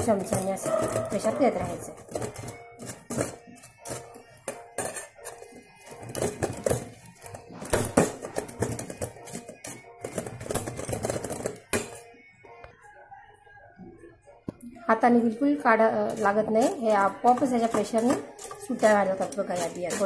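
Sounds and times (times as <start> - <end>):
spoon scraping metal sieve: 0.0 - 12.0, 15.6 - 20.0.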